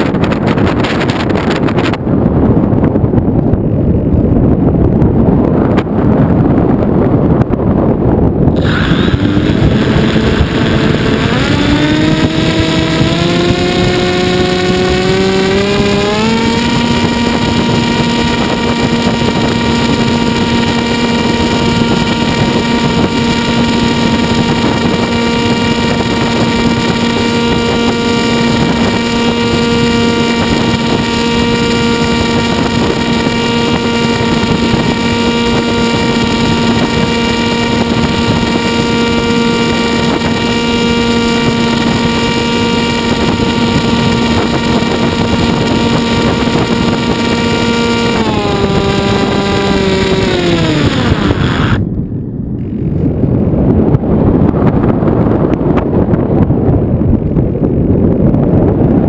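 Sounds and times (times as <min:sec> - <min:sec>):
model airplane motor and propeller: 0:00.0 - 0:02.8, 0:05.5 - 0:59.0
wind rushing over microphone: 0:00.0 - 0:59.0.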